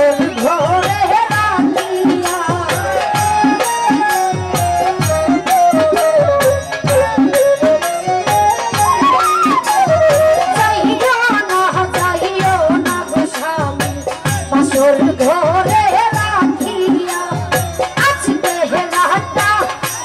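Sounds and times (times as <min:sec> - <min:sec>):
woman singing: 0:00.0 - 0:06.0, 0:08.6 - 0:20.0
hand drum beat: 0:00.0 - 0:20.0
jingling rattle percussion: 0:00.0 - 0:20.0.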